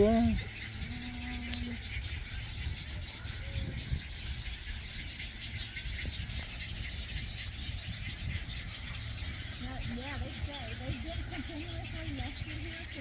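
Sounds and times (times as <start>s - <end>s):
many birds calling: 0.0s - 13.0s
wind rumbling on microphone: 0.0s - 13.0s.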